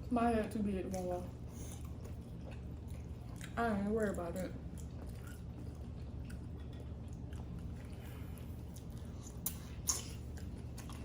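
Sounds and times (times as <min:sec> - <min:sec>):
steady low hum: 0:00.0 - 0:11.0
person chewing: 0:00.9 - 0:03.6, 0:04.6 - 0:11.0.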